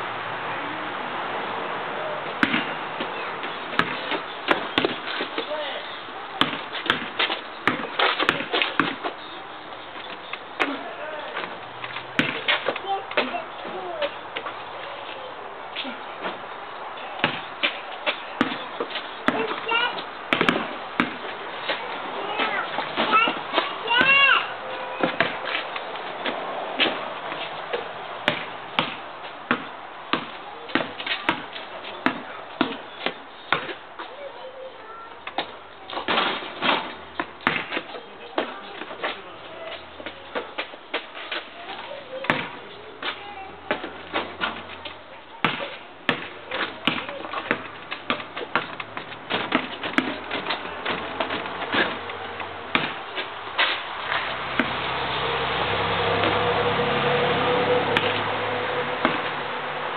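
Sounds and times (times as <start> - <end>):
basketball bouncing on asphalt: 2.4 - 9.4, 10.0 - 34.5, 35.2 - 56.4, 57.9 - 58.4, 59.0 - 59.5.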